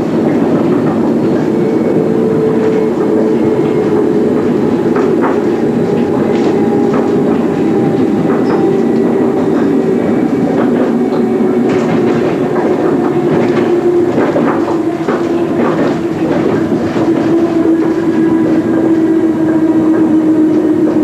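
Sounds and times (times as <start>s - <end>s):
train running drone: 0.0s - 21.0s.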